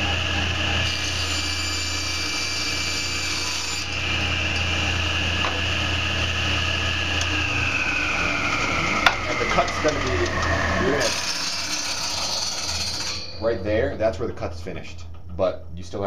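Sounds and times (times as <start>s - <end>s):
saw cutting wooden board: 0.0s - 13.5s
table saw whining: 0.0s - 14.0s.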